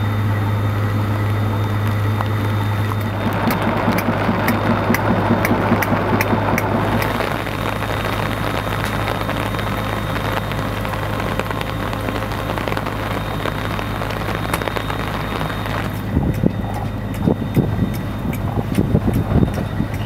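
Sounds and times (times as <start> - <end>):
steady rain: 0.0 - 19.7
low steady hum: 0.0 - 20.0.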